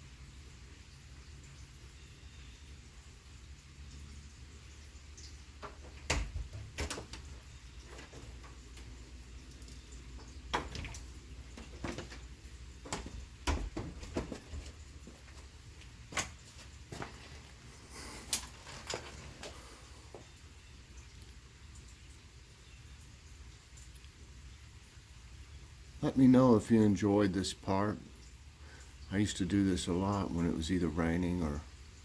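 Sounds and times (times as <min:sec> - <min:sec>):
raindrops dripping: 0:00.0 - 0:32.0.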